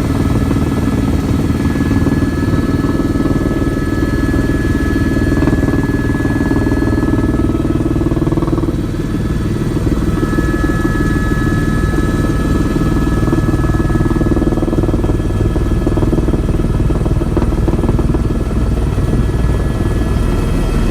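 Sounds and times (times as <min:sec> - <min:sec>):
helicopter rotor and engine drone: 0:00.0 - 0:20.9
thin steady whine: 0:00.0 - 0:20.9.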